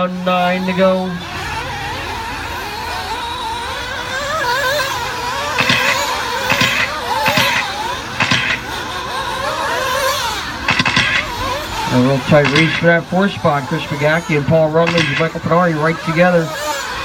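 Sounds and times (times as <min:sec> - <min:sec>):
rc buggy engines whining: 0:00.0 - 0:17.0.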